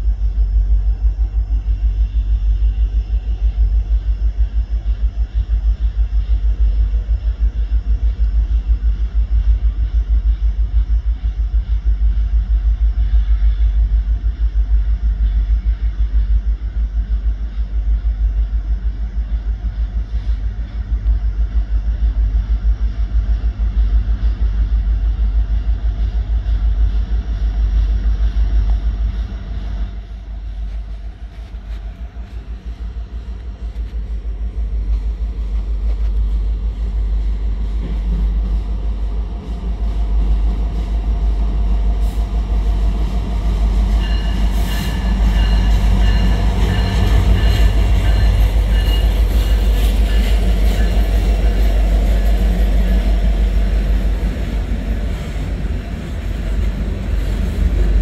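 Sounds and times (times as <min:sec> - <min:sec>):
freight train locomotive rumble: 0:00.0 - 0:58.0.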